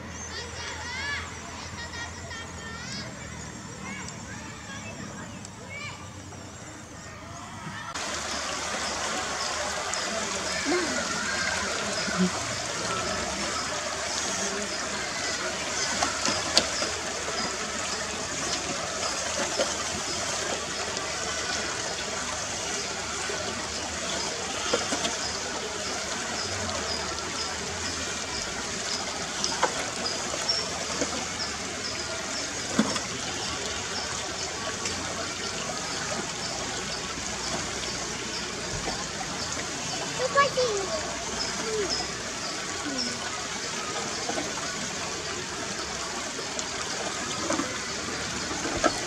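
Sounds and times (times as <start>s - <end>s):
creek water running over stones: 0.0s - 49.0s.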